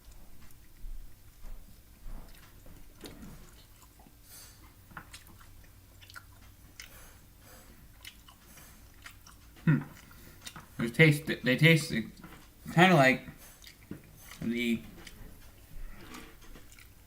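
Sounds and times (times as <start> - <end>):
wet smacking and crunching: 0.0 - 11.2, 13.3 - 17.0
person chewing food: 0.0 - 17.0.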